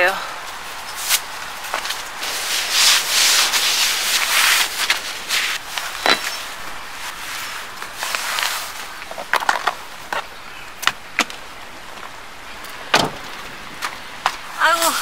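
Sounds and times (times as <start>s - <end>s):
steady hiss of rain: 0.0s - 15.0s.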